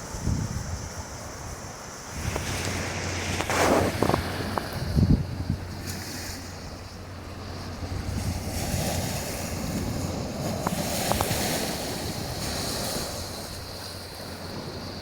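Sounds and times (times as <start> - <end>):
surf washing onto shore: 0.0 - 15.0
wind buffeting microphone: 0.0 - 15.0.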